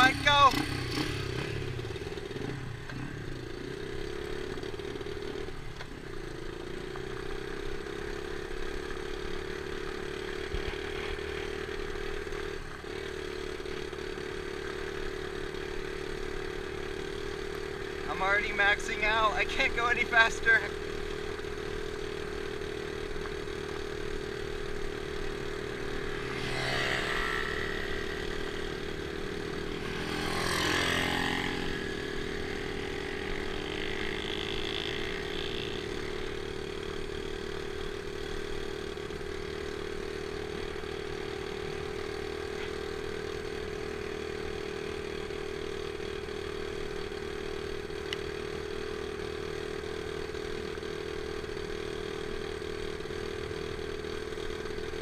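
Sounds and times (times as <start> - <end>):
dirt bike engine at full throttle: 0.0 - 55.0.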